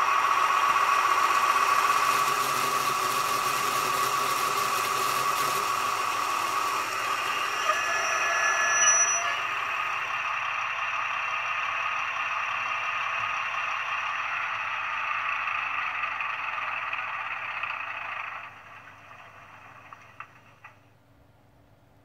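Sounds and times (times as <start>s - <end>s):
diesel engine sound through small speaker: 0.0s - 21.9s.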